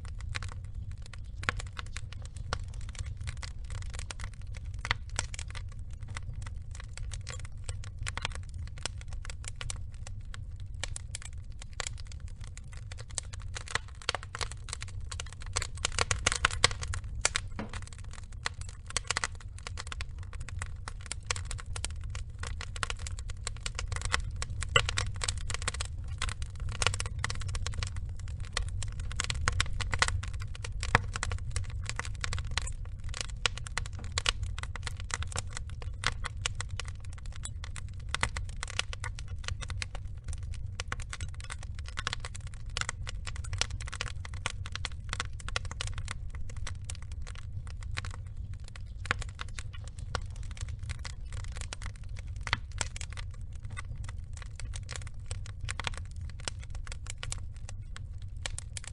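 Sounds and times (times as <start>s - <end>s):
burning logs crackling: 0.0s - 58.9s
fire low rumble: 0.0s - 58.9s.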